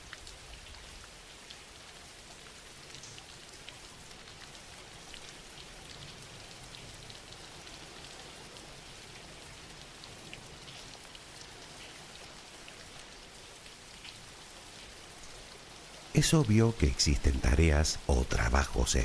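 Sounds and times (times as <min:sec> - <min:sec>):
soft rain pattering: 0:00.0 - 0:19.0.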